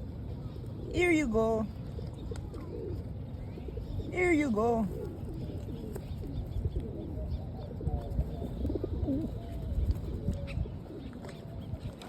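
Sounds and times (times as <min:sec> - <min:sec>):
low rumble of wind: 0:00.0 - 0:12.0
pigeons cooing: 0:00.0 - 0:12.0.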